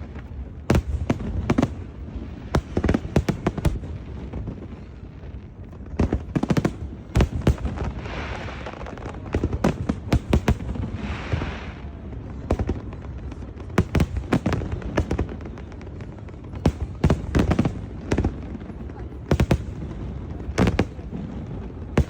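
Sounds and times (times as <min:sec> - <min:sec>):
fireworks banging: 0:00.0 - 0:22.0
fireworks crackling hiss: 0:00.0 - 0:22.0.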